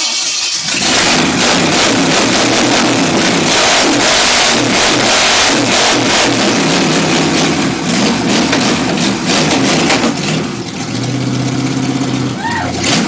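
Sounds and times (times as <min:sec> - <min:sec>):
loud lumpy car engine revving: 0:00.0 - 0:13.0.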